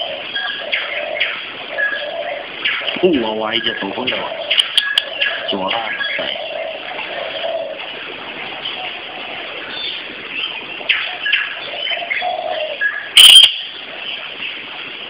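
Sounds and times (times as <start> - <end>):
bird calls and chirps: 0.0 - 7.9, 8.5 - 14.6
steady background hiss: 0.0 - 15.0.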